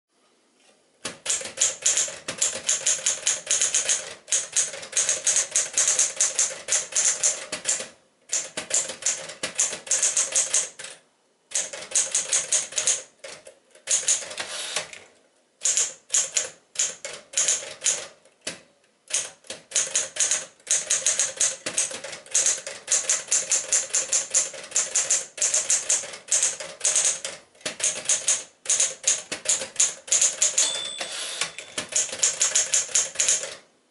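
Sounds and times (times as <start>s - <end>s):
typewriter keys striking: 1.0s - 14.9s, 15.6s - 33.6s.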